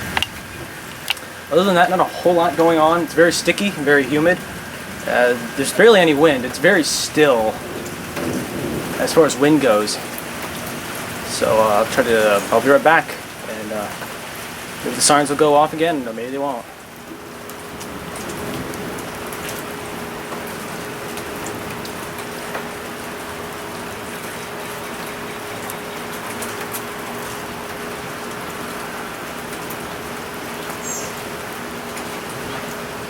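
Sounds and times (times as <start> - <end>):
faint steady hum: 0.0 - 33.0
steady rain falling: 0.0 - 33.0.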